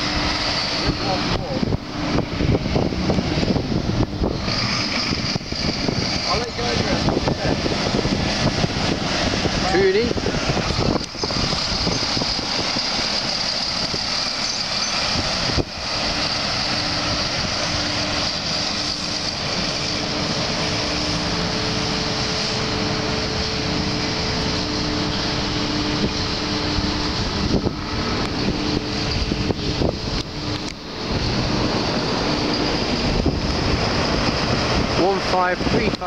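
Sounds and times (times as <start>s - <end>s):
lorry engines droning: 0.0s - 36.0s
lorry passing close by: 0.0s - 36.0s
traffic noise: 0.0s - 36.0s.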